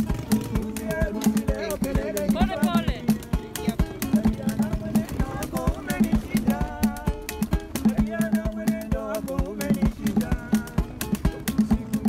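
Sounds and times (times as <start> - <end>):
plucked acoustic guitar: 0.0 - 12.0
steady percussive beat: 0.0 - 12.0.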